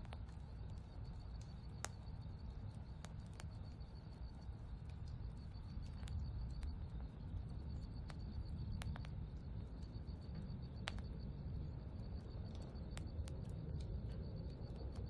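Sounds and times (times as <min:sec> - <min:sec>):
faint insect trill: 0:00.0 - 0:15.0.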